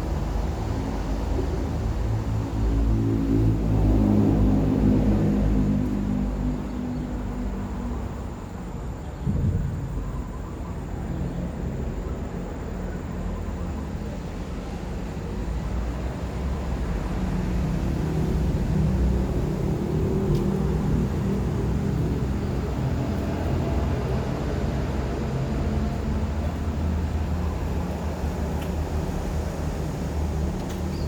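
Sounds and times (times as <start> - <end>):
traffic engine rumble: 0.0 - 31.0
vehicle hum: 0.0 - 31.0.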